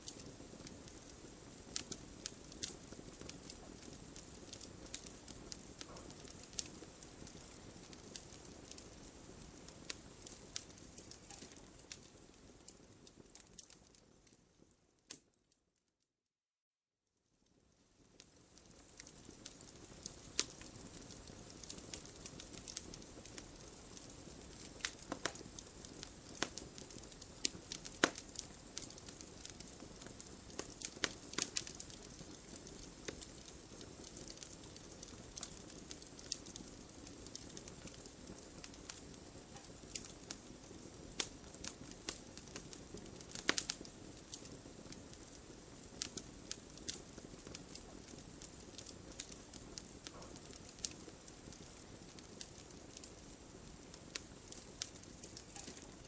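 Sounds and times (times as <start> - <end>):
wood fire crackling: 0.0 - 15.5, 17.5 - 56.0.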